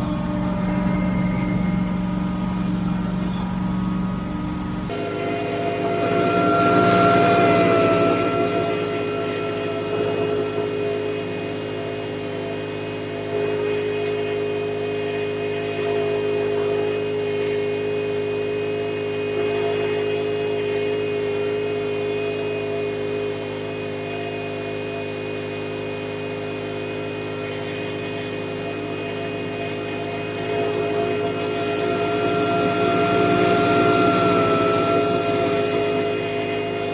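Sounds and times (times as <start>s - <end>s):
debris blower engine humming: 0.0s - 36.9s.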